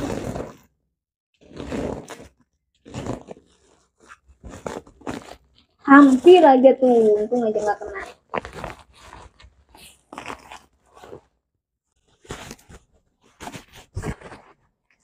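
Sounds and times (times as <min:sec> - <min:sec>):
bubble wrap crinkling and tearing: 0:00.0 - 0:00.6, 0:01.4 - 0:11.3, 0:12.0 - 0:14.6.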